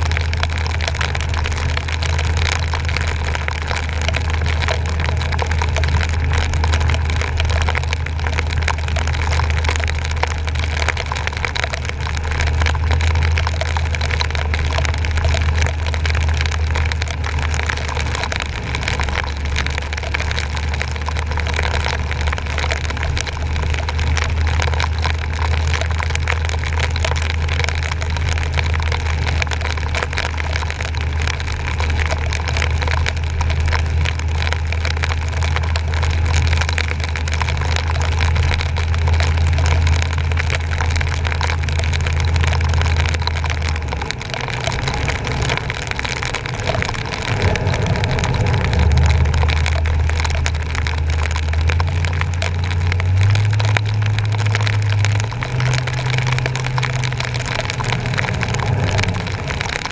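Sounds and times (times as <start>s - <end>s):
hiss of water and rain: 0.0s - 59.9s
truck engine drone: 0.0s - 59.9s.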